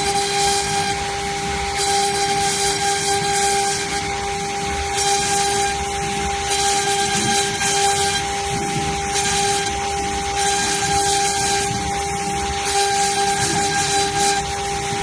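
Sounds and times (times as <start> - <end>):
router bit cutting hiss: 0.0 - 15.0
router spindle whine: 0.0 - 15.0.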